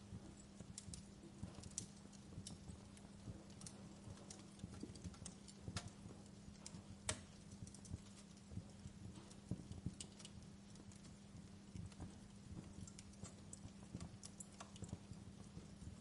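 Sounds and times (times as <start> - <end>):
faint steady hum: 0.0 - 16.0
wood fire crackling: 0.0 - 16.0.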